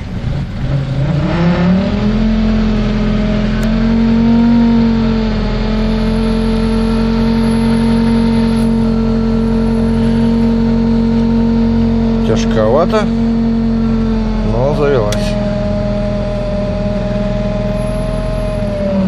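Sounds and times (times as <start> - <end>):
car engine starting and running: 0.0 - 19.0.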